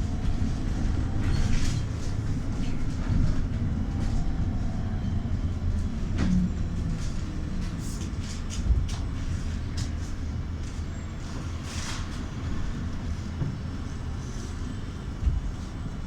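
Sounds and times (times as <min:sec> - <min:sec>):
trolleybus rumbling: 0:00.0 - 0:16.0.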